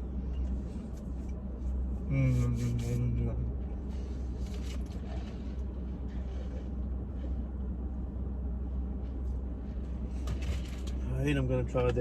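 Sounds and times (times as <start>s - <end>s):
car cabin engine rumble: 0.0s - 12.0s.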